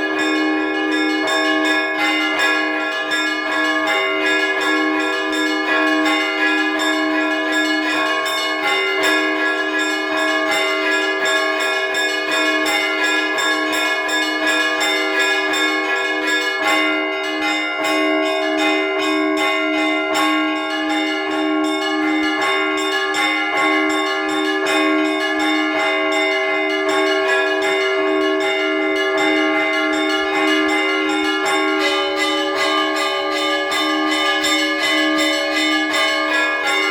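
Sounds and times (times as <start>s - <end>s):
small church bells rapid strikes: 0.0s - 36.9s.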